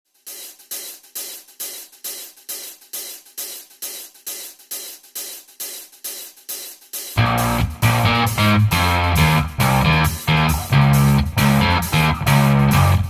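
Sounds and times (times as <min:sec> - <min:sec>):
hi-hat and cymbal beat: 0:00.1 - 0:13.0.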